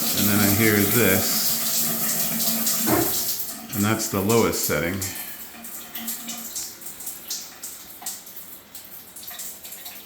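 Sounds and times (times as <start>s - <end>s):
water hissing through shower valve: 0.0s - 10.0s.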